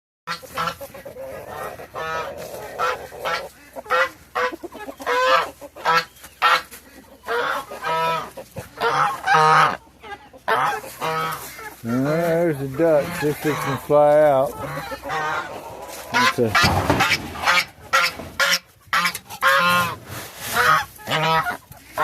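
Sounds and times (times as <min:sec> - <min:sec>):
geese honking: 0:00.3 - 0:22.0.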